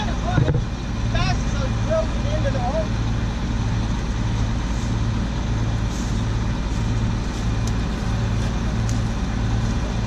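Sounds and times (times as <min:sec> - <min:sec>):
combine harvester droning: 0:00.0 - 0:10.0.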